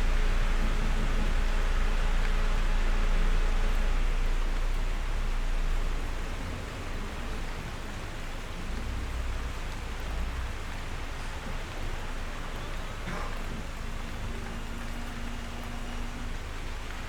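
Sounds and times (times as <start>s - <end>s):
steady rain hissing: 0.0s - 17.0s.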